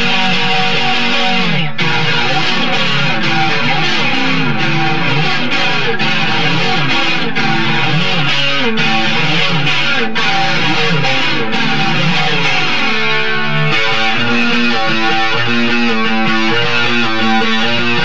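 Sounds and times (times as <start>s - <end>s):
electric guitar fast riff: 0.0s - 18.0s.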